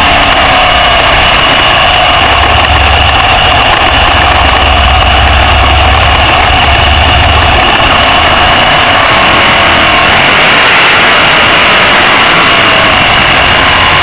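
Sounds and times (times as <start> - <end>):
race car engine running: 0.0 - 14.0.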